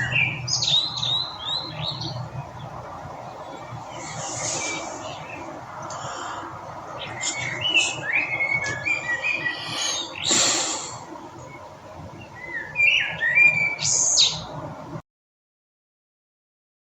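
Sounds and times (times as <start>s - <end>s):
loud rush of noise: 0.0s - 15.0s
songbirds chirping and singing: 0.0s - 15.0s
steady background hiss: 0.0s - 15.0s.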